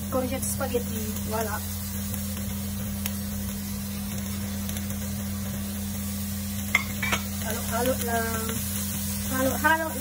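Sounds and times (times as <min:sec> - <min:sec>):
vegetables sizzling in frying pan: 0:00.0 - 0:10.0.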